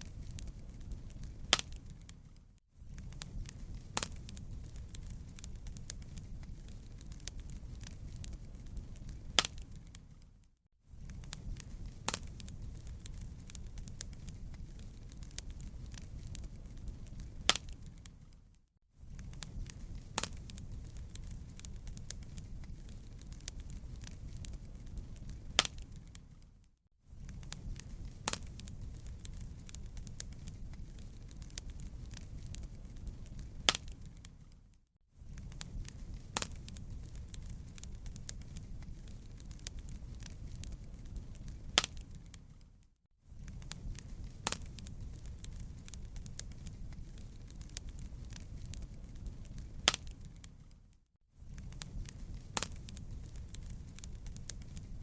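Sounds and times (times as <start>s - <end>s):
fire pops: 0.0s - 42.8s, 43.4s - 55.0s
wood fire crackling: 0.0s - 55.0s.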